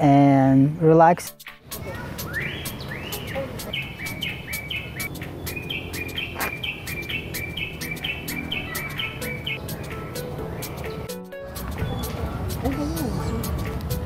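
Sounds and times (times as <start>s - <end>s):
birds chirping: 1.3s - 14.0s.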